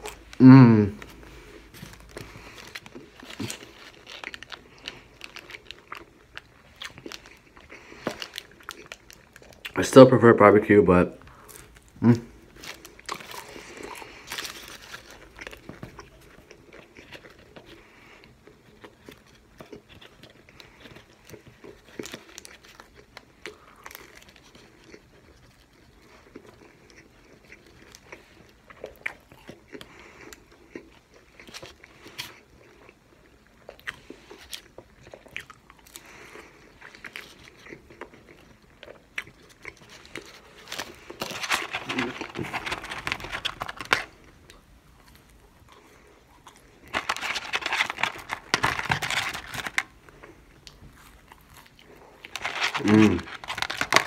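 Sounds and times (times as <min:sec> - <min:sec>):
person chewing food: 0:00.0 - 0:09.8, 0:11.2 - 0:54.0.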